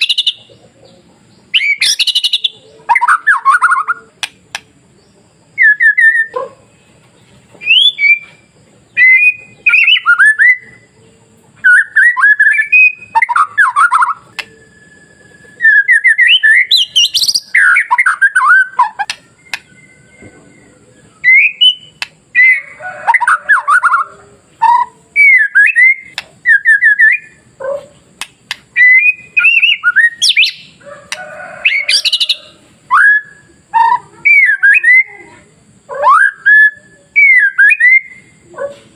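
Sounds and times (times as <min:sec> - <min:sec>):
songbird singing whistles: 0:00.0 - 0:00.5, 0:01.5 - 0:04.7, 0:05.5 - 0:06.5, 0:07.6 - 0:10.9, 0:11.6 - 0:35.3, 0:35.9 - 0:38.7.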